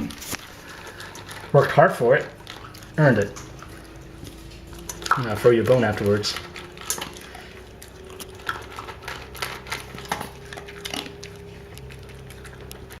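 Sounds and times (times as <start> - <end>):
dog crunching food: 0.0 - 13.0
faint steady hum: 0.0 - 13.0.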